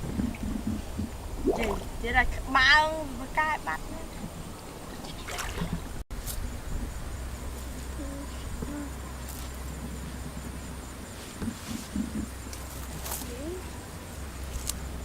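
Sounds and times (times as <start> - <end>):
insects chirping: 1.4 - 15.0.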